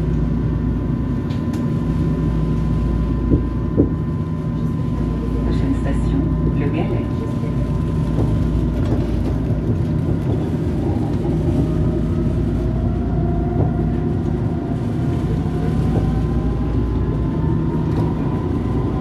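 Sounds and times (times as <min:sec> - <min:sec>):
tram low rumble: 0:00.0 - 0:19.0.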